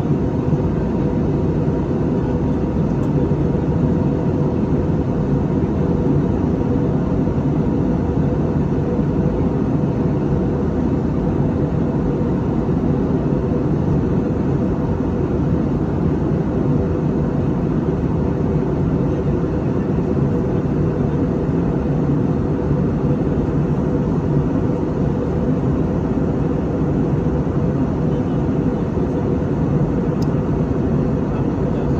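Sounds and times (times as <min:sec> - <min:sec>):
faint constant hum: 0:00.0 - 0:31.9
jet engines rumbling: 0:00.0 - 0:31.9.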